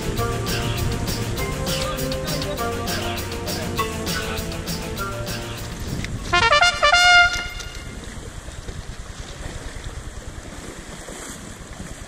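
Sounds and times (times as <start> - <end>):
wind and surf hiss: 0.0 - 12.0.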